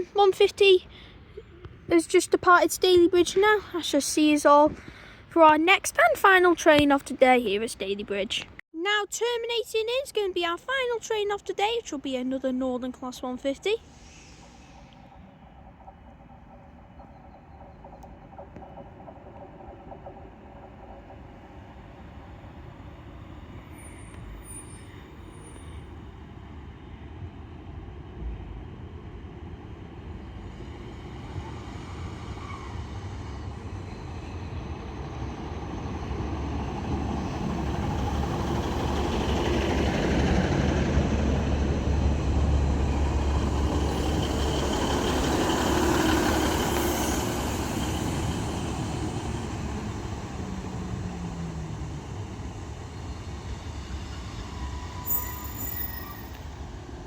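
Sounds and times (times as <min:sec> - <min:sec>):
diesel train engines and wheels: 0:00.0 - 0:57.0.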